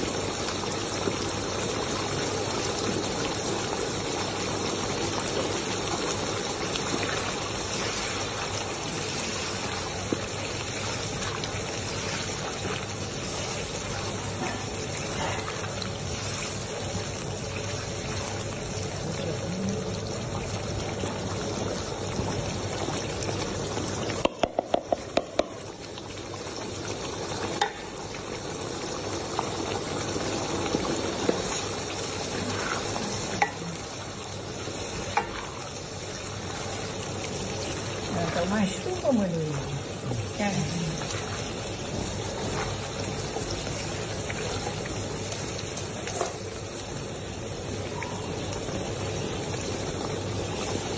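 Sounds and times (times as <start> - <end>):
sauce bubbling and sizzling: 0.0 - 50.9.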